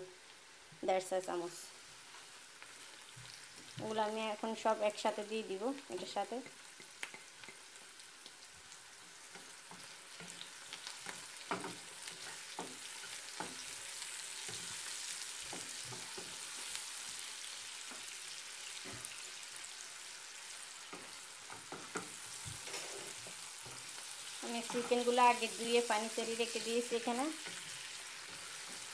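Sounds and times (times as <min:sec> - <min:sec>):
vegetables sizzling in hot oil: 0:00.0 - 0:28.9.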